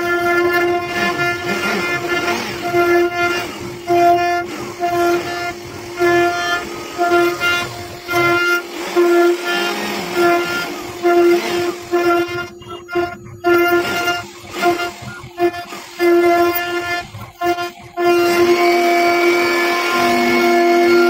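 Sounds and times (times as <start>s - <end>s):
cnc router motor whine: 0.0s - 21.0s.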